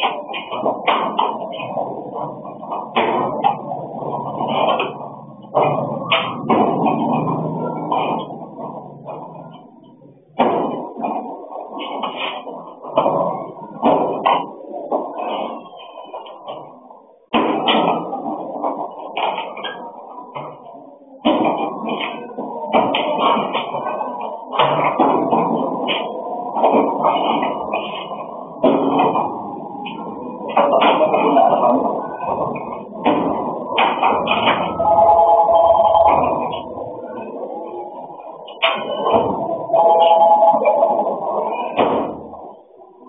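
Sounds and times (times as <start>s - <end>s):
steady background noise: 0.0s - 43.0s.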